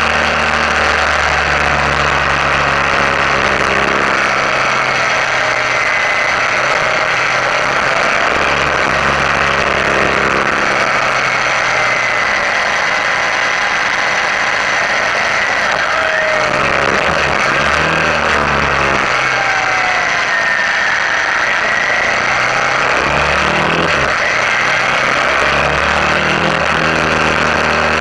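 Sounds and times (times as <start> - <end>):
motorcycle engine drone: 0.0 - 28.0.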